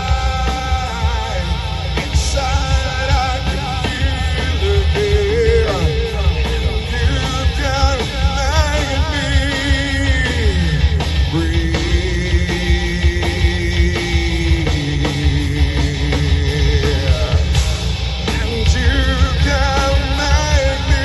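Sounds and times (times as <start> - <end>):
bass: 0.0 - 21.0
driving drums: 0.0 - 21.0.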